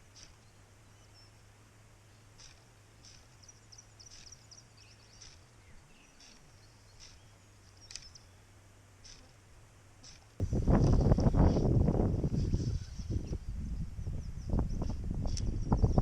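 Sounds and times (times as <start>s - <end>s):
bird chirping: 0.0s - 9.4s, 12.3s - 16.0s
low steady hum: 0.0s - 16.0s.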